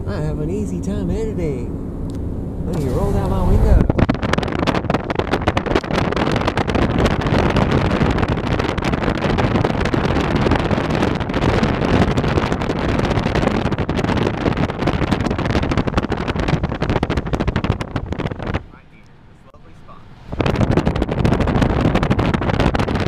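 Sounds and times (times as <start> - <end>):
car road noise: 0.0 - 23.0
wind buffeting through car window: 0.0 - 23.0.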